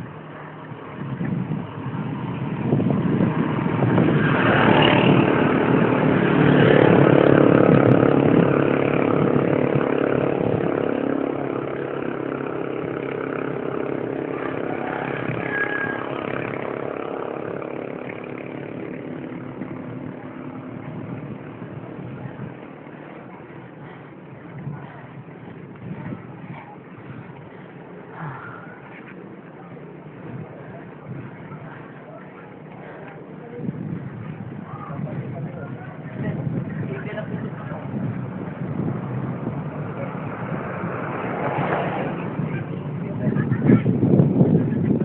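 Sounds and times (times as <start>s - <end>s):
vehicle engine passing by: 0.9s - 45.0s.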